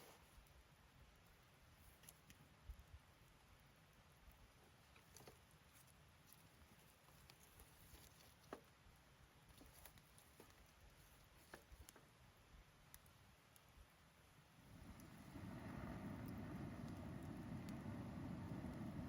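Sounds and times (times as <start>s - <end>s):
faint campfire crackling: 0.0s - 19.0s.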